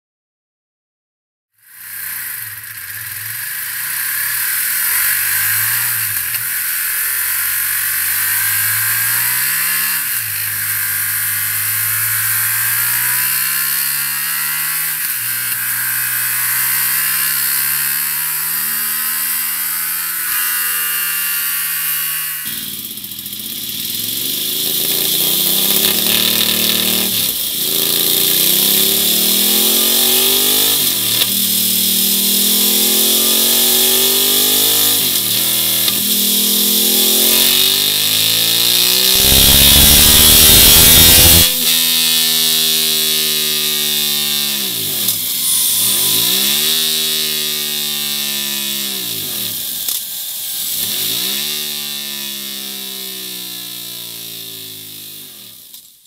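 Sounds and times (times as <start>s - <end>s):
motorcycle engine revving: 1.6s - 55.9s.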